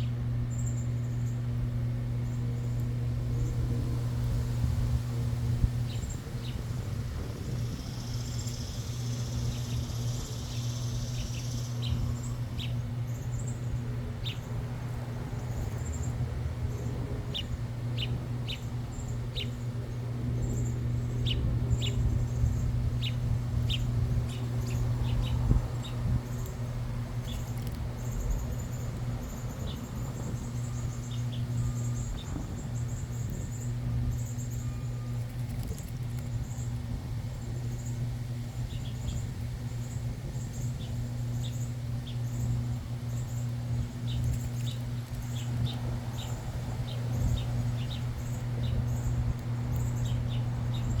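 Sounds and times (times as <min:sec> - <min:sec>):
birds chirping: 0:00.0 - 0:51.0
steady low hum: 0:00.0 - 0:51.0.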